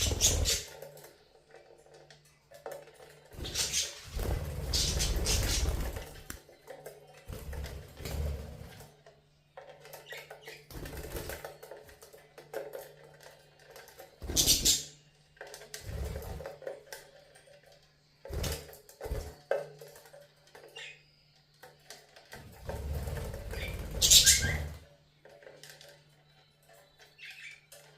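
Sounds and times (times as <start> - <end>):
budgies pecking and scratching in cage: 0.0 - 27.9.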